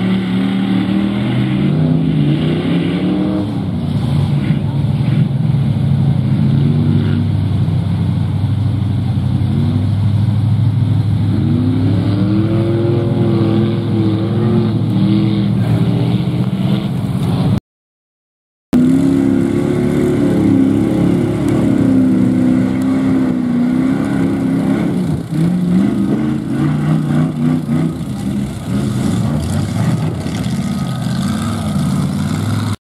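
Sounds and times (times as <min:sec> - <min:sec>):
truck engine revving hard: 0:00.0 - 0:07.7, 0:11.0 - 0:17.6, 0:18.8 - 0:32.8.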